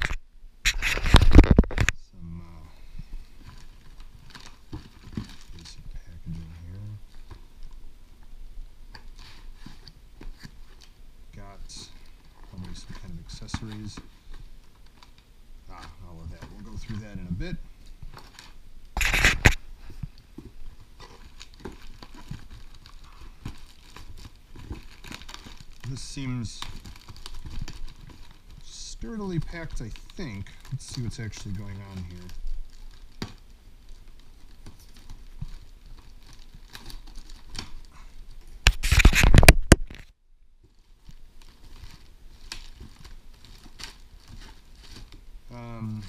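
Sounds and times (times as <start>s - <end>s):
plastic packaging crinkling: 0.0s - 2.0s, 3.0s - 46.0s
plastic cushioning rustling: 3.0s - 46.0s.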